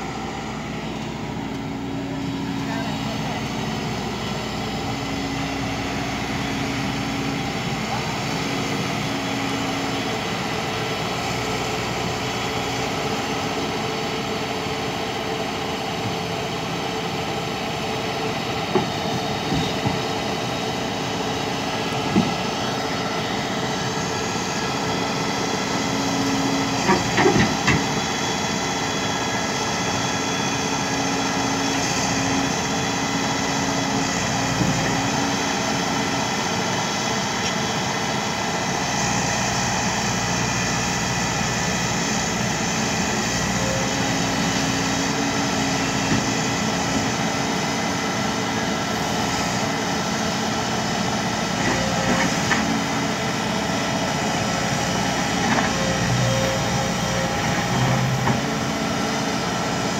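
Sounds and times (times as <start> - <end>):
excavator diesel engine running: 0.0 - 59.9
hydraulic whine: 0.0 - 59.9.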